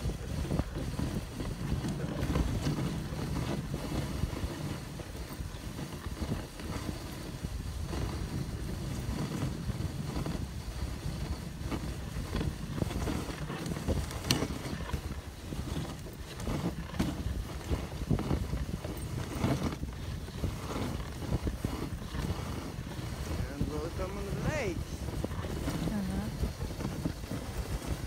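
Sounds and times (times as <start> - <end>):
sled runners on snow: 0.0 - 28.0
wind buffeting microphone: 0.0 - 28.0.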